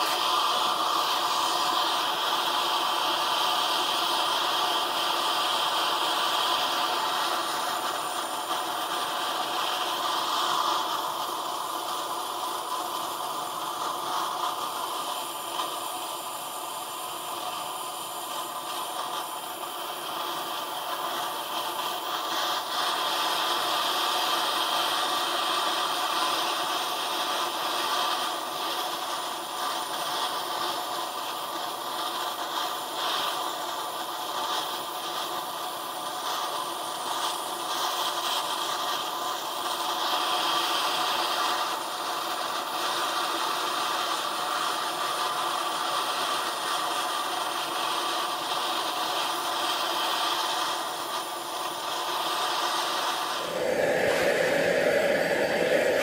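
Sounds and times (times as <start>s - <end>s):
gas torch hissing: 0.0s - 44.2s, 44.8s - 56.0s.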